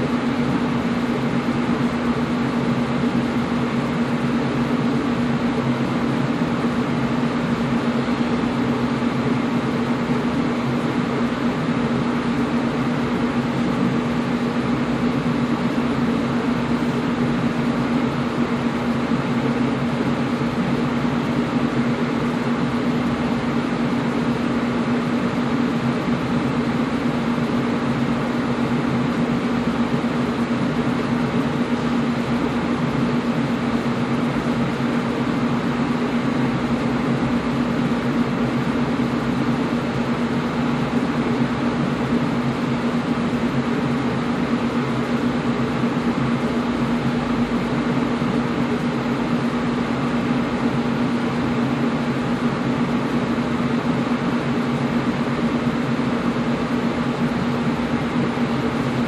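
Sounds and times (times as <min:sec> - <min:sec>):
air conditioner fan rush: 0:00.0 - 0:59.0
constant low hum: 0:00.0 - 0:59.0.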